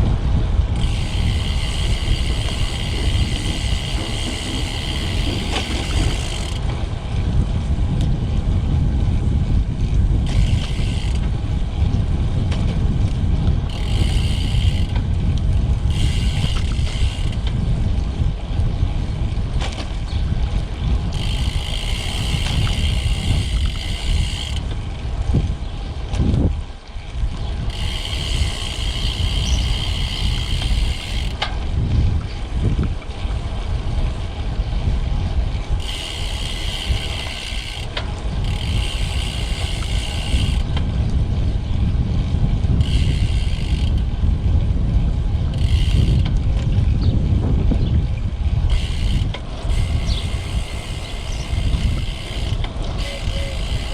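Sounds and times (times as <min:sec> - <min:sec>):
wind rushing over microphone: 0:00.0 - 0:53.9.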